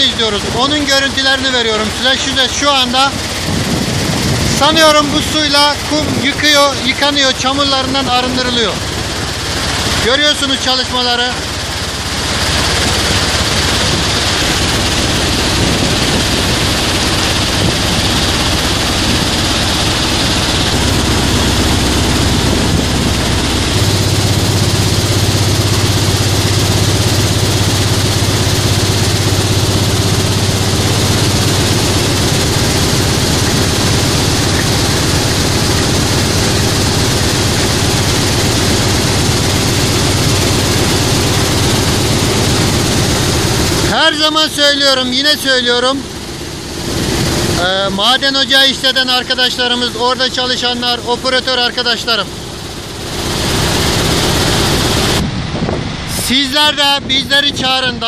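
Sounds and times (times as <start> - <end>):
low machine hum: 0.0 - 58.0
rushing washing water: 0.0 - 58.0
sand washing machinery din: 0.0 - 58.0.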